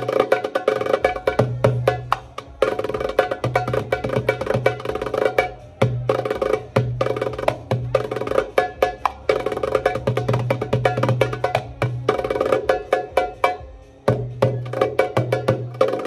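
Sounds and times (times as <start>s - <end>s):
backing music with low bass: 0.0s - 16.0s
goblet drum rhythm: 0.0s - 16.0s.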